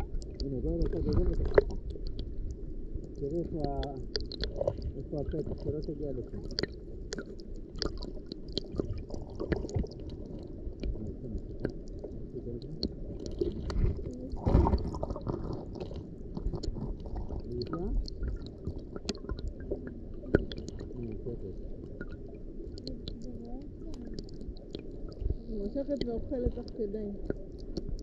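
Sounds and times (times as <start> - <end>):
muffled underwater rumble: 0.0 - 28.0
underwater clicks and crackles: 0.0 - 28.0.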